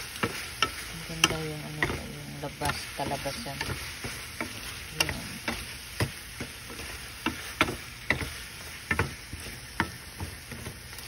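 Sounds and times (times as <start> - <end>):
vegetables sizzling in a skillet: 0.0 - 11.0.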